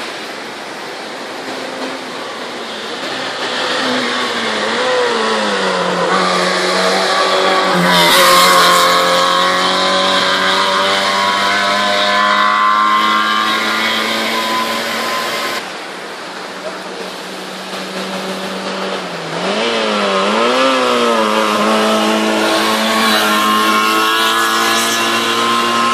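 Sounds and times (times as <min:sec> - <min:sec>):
race car engine revving past: 0:00.0 - 0:16.4, 0:17.1 - 0:25.9.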